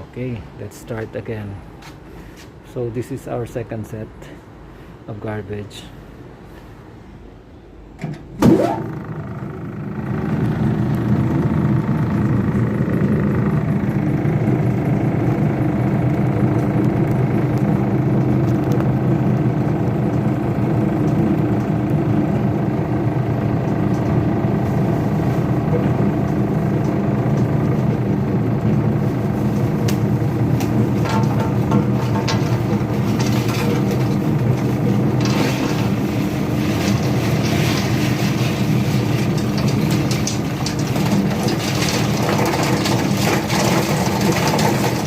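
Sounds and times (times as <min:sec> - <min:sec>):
paper shredder motor humming: 0:08.4 - 0:45.0.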